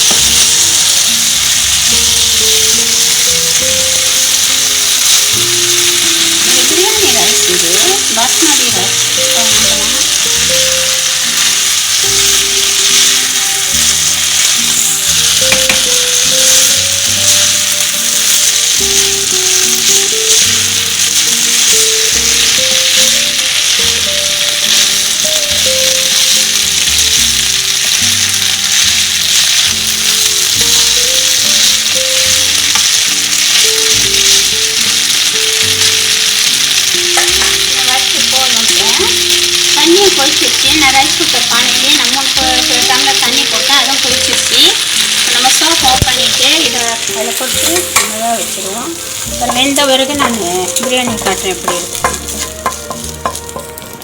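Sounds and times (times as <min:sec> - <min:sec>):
background music: 0:00.0 - 0:54.0
food sizzling in a pan: 0:00.0 - 0:54.0.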